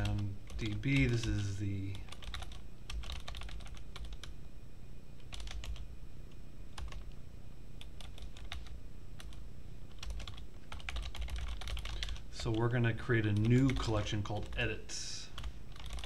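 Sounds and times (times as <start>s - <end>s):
computer keyboard typing: 0.0s - 4.3s, 5.2s - 5.8s, 6.8s - 7.2s, 7.8s - 14.8s, 15.4s - 16.0s
low steady hum: 0.0s - 16.0s.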